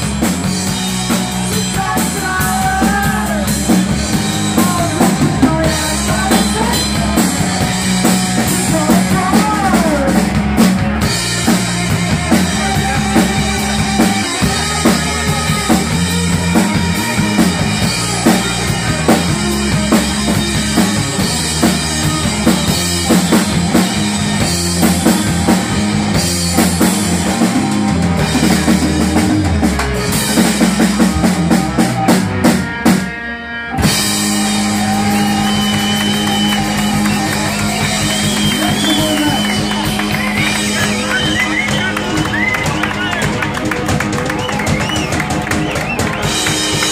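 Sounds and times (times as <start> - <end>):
drum kit: 0.0 - 46.9
electric guitar: 0.0 - 46.9
rock band playing: 0.0 - 46.9.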